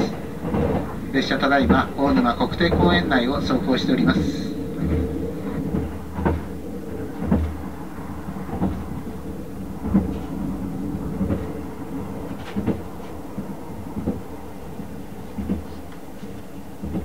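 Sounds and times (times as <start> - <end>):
train coach low rumble: 0.0 - 17.0
wheels clacking over track joints: 0.0 - 17.0.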